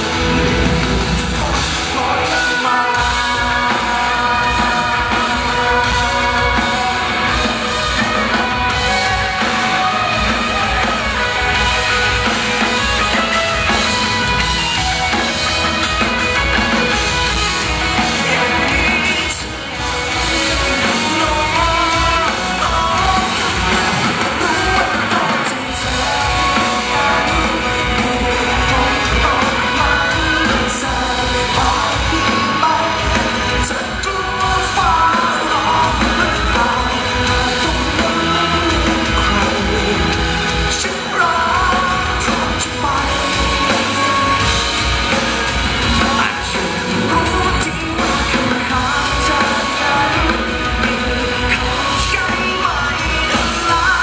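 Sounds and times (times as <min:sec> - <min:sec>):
drum kit and cymbals: 0:00.0 - 0:54.0
live pop-rock band: 0:00.0 - 0:54.0
person singing: 0:00.0 - 0:54.0.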